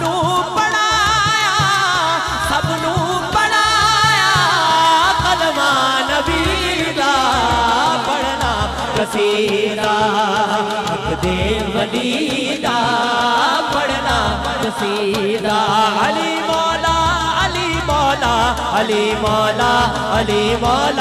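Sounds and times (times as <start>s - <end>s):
man singing into microphone: 0.0s - 21.0s.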